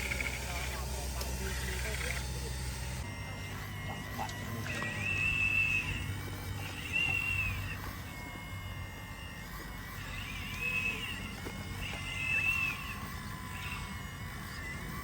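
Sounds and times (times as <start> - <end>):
high-pitched electric motor whine: 0.0 - 15.0.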